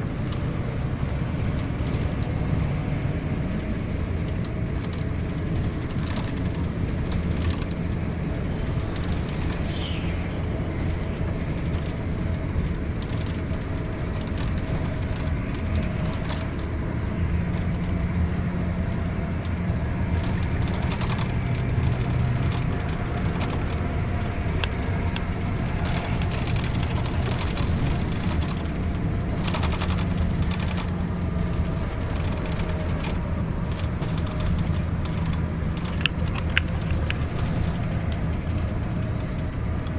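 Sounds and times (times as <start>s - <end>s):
bus diesel engine droning: 0.0s - 39.9s
road noise: 0.0s - 39.9s.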